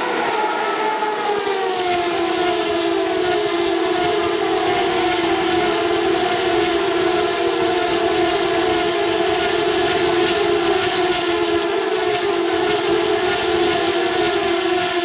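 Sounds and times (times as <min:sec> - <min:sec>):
race car engines at high revs: 0:00.0 - 0:15.0.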